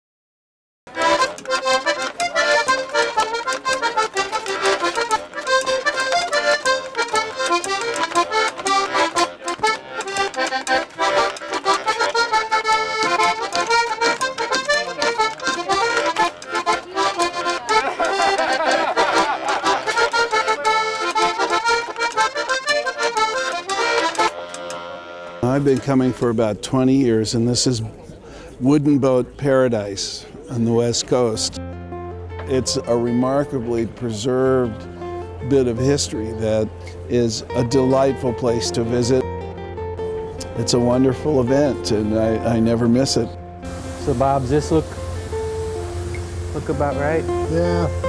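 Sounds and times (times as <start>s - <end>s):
button accordion playing a tune: 0.9s - 26.4s, 34.7s - 48.0s.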